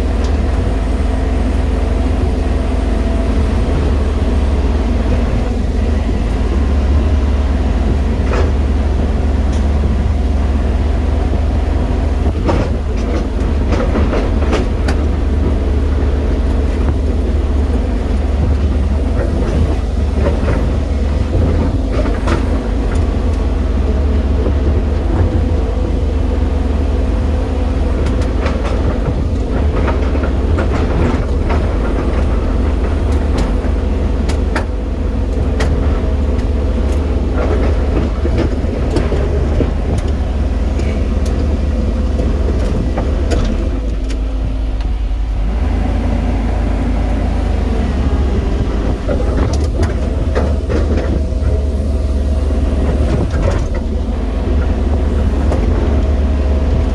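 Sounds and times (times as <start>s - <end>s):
excavator diesel engine running: 0.0s - 56.9s
machine clanks and knocks: 3.3s - 26.2s, 27.6s - 45.2s, 47.9s - 56.9s.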